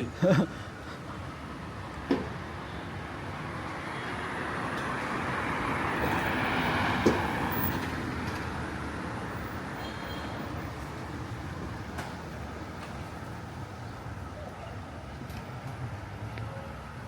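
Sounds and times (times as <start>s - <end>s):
road vehicle passing by: 0.8s - 17.0s.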